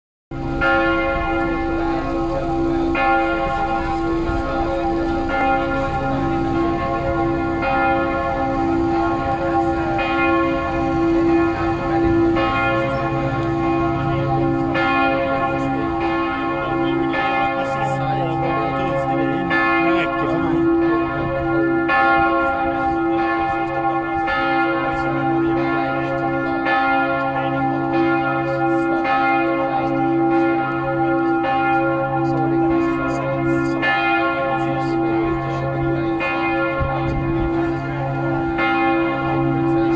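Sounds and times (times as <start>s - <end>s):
church bells ringing: 0.3s - 39.9s
hum of bells: 0.3s - 39.9s.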